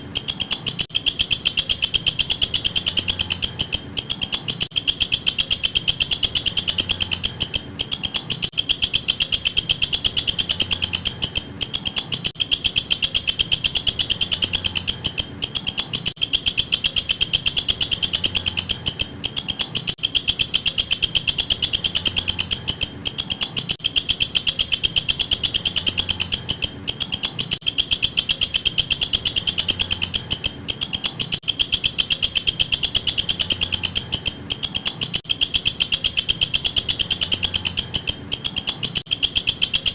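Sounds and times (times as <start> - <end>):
insect high-pitched pulsing trill: 0.0 - 39.9.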